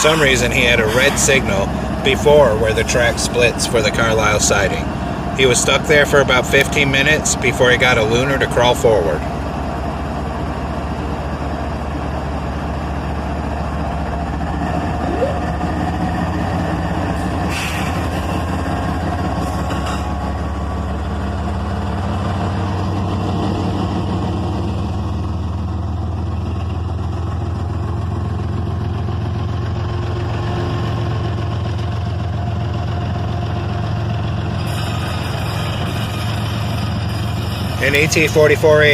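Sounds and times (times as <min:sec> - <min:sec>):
diesel locomotive engines droning: 0:00.0 - 0:38.9.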